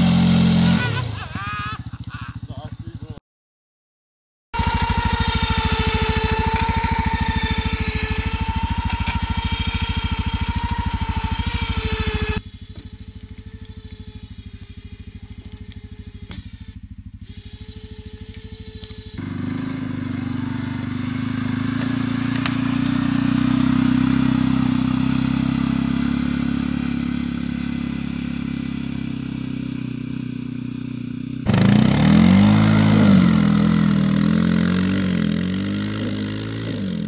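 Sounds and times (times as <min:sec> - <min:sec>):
quad bike engine: 0:00.0 - 0:03.2, 0:04.6 - 0:37.0.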